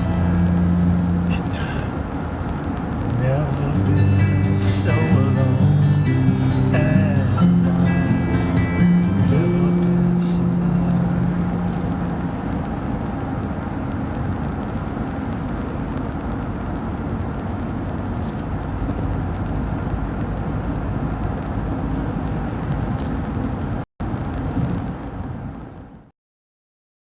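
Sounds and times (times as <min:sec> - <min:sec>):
vehicle road noise rumbling: 0:00.0 - 0:26.1.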